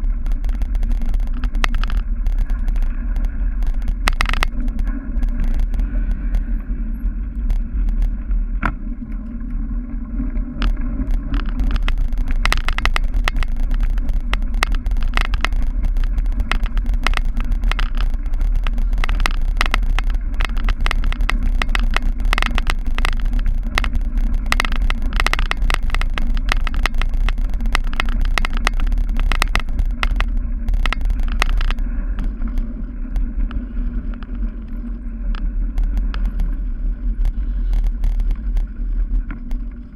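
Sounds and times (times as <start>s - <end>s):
bike rattling over bumps: 0.0s - 39.9s
wind noise: 0.0s - 39.9s.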